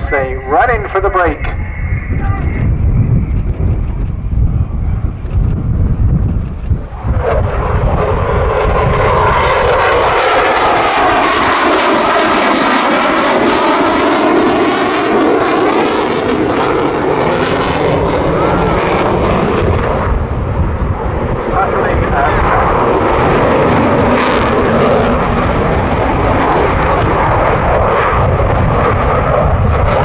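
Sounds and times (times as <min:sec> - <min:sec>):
jet engines roaring on a fast pass: 0:00.0 - 0:30.0
phasing whoosh of passing jet: 0:00.0 - 0:30.0.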